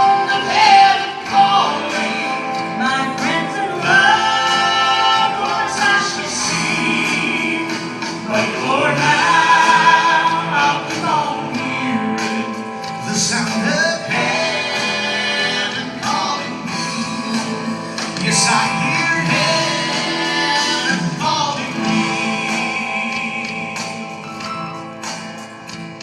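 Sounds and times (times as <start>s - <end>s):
vocal trio singing gospel: 0.0s - 24.6s
instrumental accompaniment: 0.0s - 26.0s.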